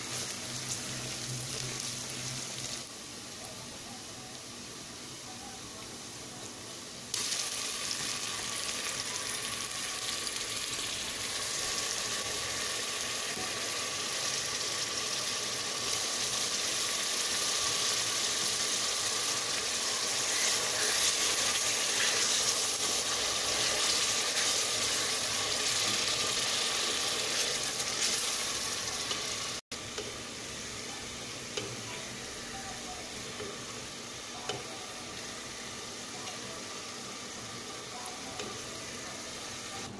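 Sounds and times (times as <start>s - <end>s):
oil and onions sizzling: 0.0s - 39.9s.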